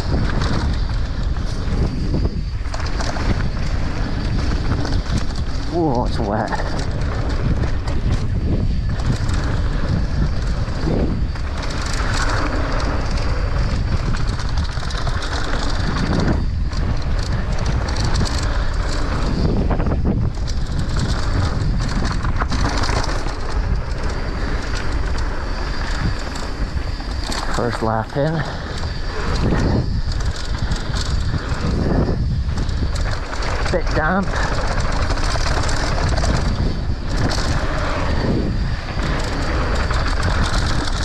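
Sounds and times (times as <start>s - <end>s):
bike clicks and knocks: 0.0s - 41.0s
bike tyres rolling on dirt: 0.0s - 41.0s
wind buffeting microphone: 0.0s - 41.0s.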